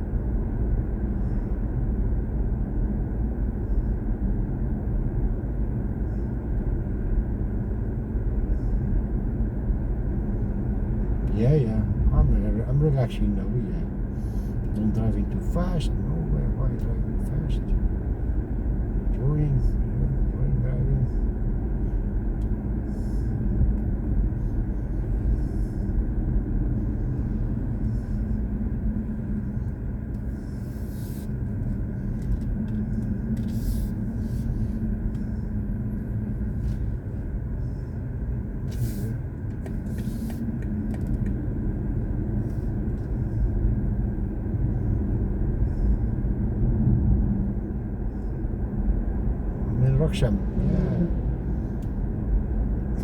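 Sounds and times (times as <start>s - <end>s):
road and tyre rumble: 0.0s - 53.0s.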